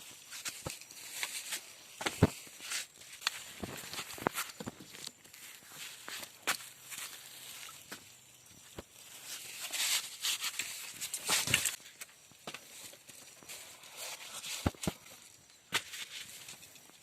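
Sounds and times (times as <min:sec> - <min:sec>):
footsteps crunching on dry ground: 0:00.0 - 0:16.6.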